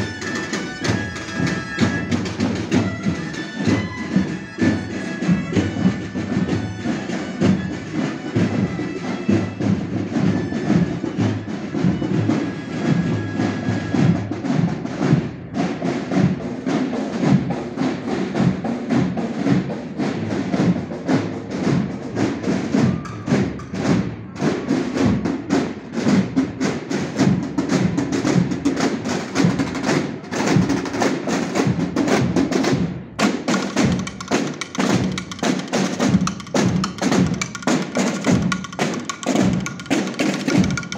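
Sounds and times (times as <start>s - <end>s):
marching drums: 0.0s - 40.9s.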